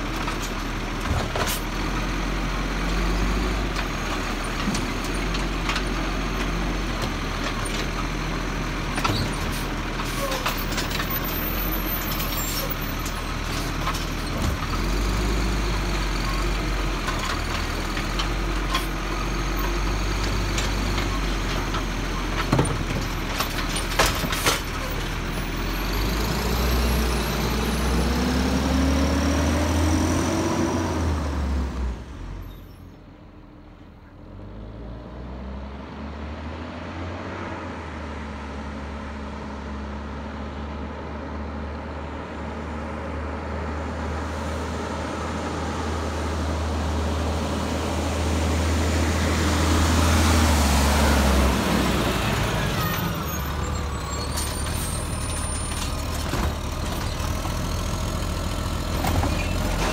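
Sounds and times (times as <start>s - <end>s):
garbage truck diesel engine: 0.0s - 59.9s.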